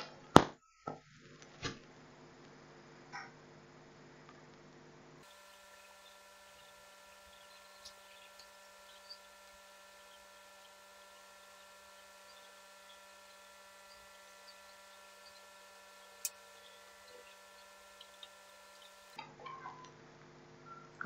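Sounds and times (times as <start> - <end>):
faint electrical hum: 1.0 - 21.0.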